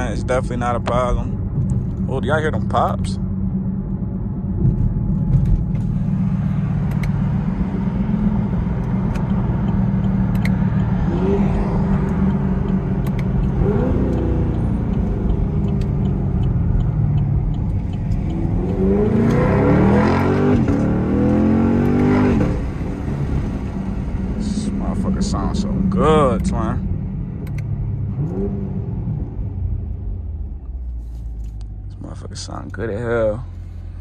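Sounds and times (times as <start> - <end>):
car exhaust popping and crackling: 0.0 - 28.5
car engine revving up: 0.0 - 30.5.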